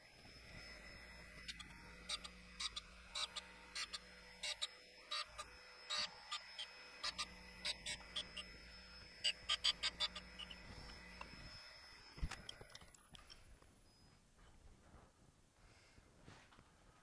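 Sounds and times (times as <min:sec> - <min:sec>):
faint machine hum: 0:00.0 - 0:17.0.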